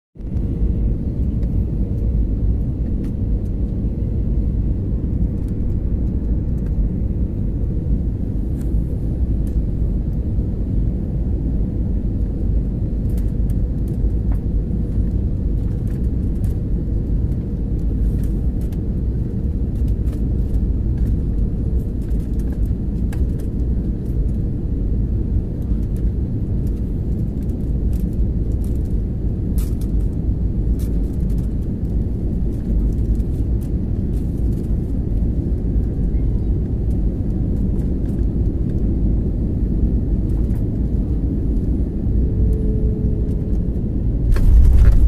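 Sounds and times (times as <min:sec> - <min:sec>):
jet cabin engine rumble: 0:00.2 - 0:45.0.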